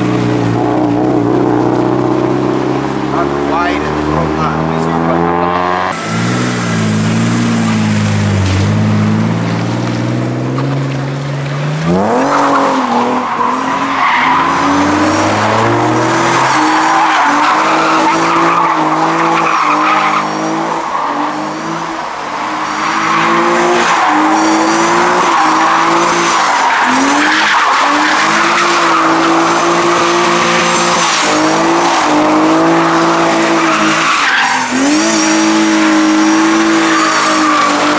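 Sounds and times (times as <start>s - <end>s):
car engine revving: 0.0s - 37.9s
tyres squealing: 3.0s - 21.4s, 22.0s - 37.9s.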